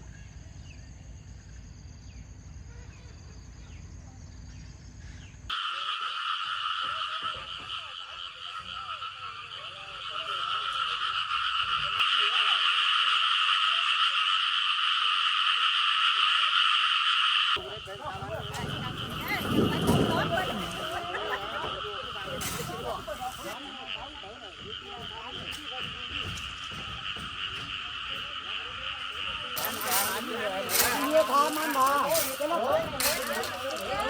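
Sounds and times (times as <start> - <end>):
frog chorus trilling: 5.1 - 34.0
frog croaks: 5.5 - 34.0.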